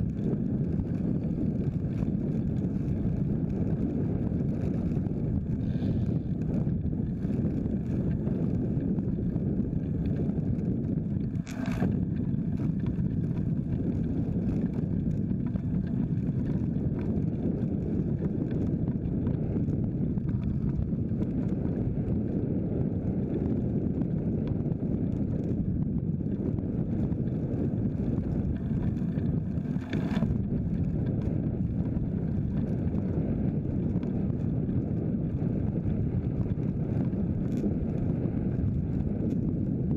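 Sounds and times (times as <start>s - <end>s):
tyre rumble on concrete road: 0.0s - 39.9s
wind buffeting microphone: 0.0s - 39.9s.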